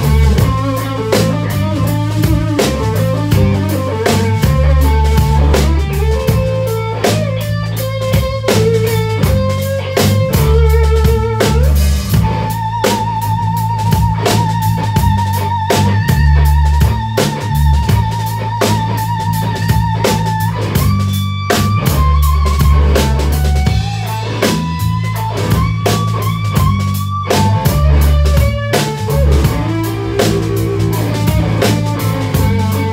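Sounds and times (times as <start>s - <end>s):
bass guitar: 0.0s - 32.9s
drum kit: 0.0s - 32.9s
electric guitar lead: 0.0s - 32.9s.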